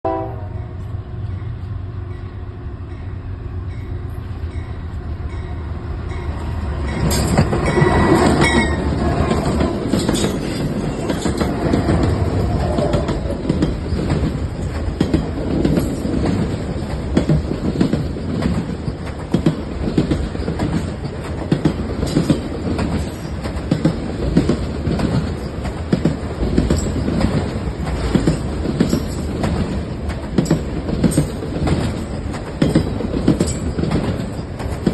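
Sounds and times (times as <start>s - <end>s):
diesel locomotive engines droning: 0.0s - 34.9s
rumble of rail cars: 0.0s - 34.9s
wheels clacking over rail joints: 6.3s - 34.9s.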